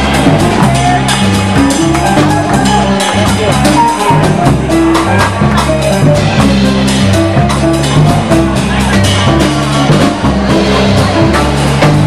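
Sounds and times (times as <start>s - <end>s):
bass line: 0.0s - 12.0s
piano: 0.0s - 12.0s.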